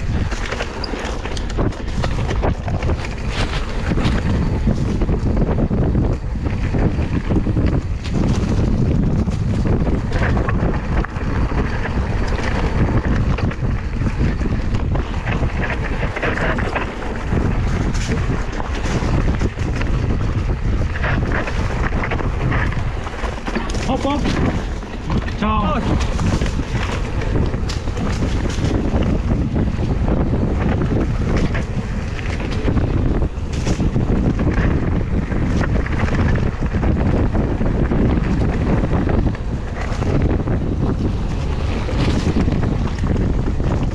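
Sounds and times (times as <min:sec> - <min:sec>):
bike clicks and rattles: 0:00.0 - 0:43.9
bike tyre rumble: 0:00.0 - 0:43.9
wind buffeting microphone: 0:00.0 - 0:43.9.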